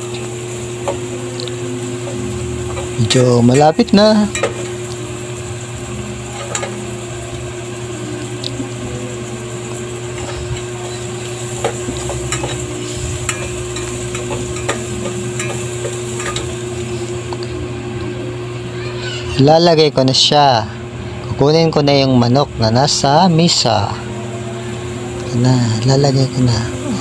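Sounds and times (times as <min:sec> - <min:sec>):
food sizzling in hot oil: 0:00.0 - 0:19.4, 0:22.6 - 0:27.0
steady low hum: 0:00.0 - 0:27.0.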